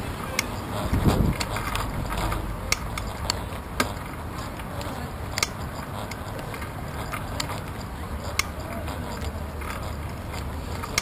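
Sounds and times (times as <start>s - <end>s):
wind and tyres rumbling: 0.0s - 11.0s
sharp clicks and knocks: 0.4s - 11.0s.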